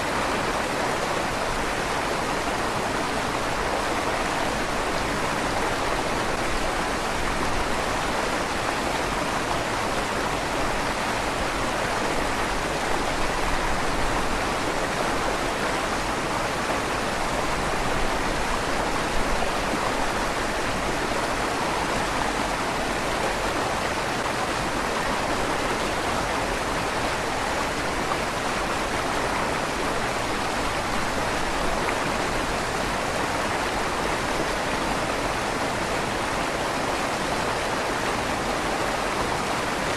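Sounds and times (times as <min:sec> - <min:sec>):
river water rushing through tunnel: 0:00.0 - 0:39.9.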